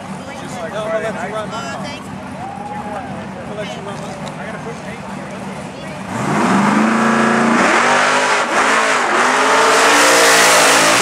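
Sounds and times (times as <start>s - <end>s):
car accelerating at full throttle: 0.0s - 11.0s.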